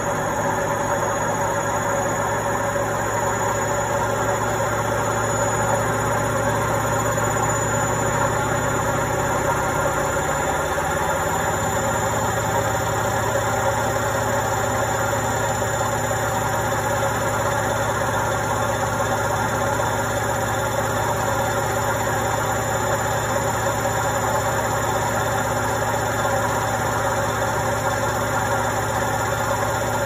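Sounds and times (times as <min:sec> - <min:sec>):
washing machine running: 0:00.0 - 0:30.0.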